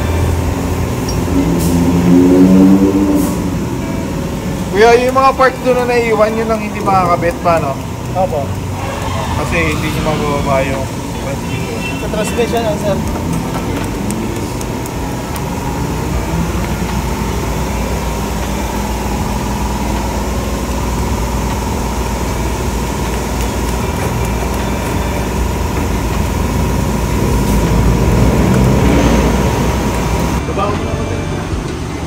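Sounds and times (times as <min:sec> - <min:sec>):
low mechanical rumble: 0:00.0 - 0:32.0.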